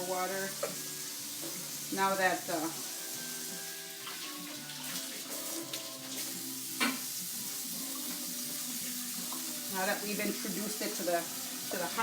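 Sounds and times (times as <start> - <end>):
background music: 0.0 - 12.0
vegetables hissing and sizzling: 0.0 - 12.0
water poured into hot pot: 0.0 - 12.0.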